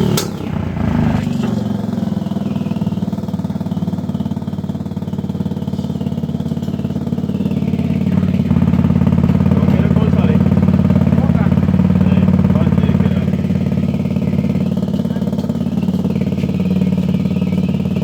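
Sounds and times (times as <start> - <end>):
scooter engine blip: 0.0 - 18.0
scooter engine idling: 0.0 - 18.0.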